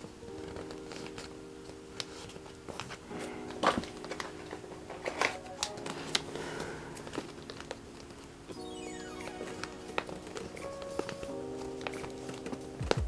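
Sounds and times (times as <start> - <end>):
plastic sleeves crinkling and clicking: 0.0 - 8.3, 9.5 - 12.9
soft background music: 0.0 - 13.0.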